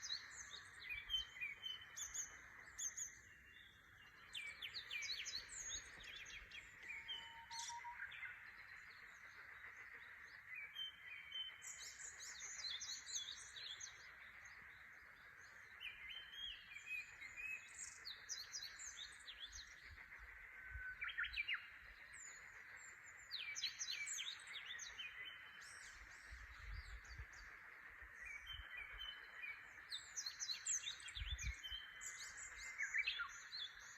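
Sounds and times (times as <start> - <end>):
faint frog chorus: 0.0 - 33.9
wild birds singing: 0.0 - 33.9.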